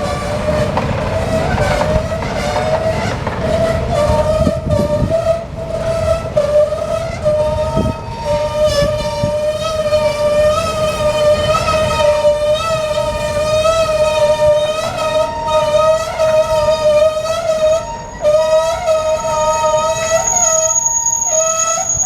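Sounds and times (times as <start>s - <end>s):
rolling train wagons rumbling: 0.0s - 22.0s
train brakes squealing: 0.0s - 22.0s.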